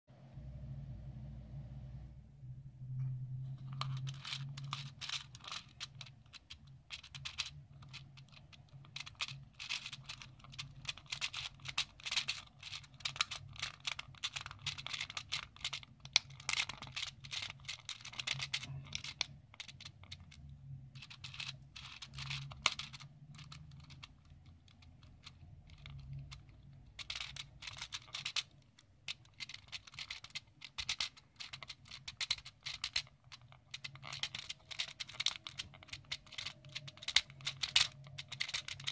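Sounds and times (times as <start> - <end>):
plastic puzzle pieces clicking: 3.5 - 38.9.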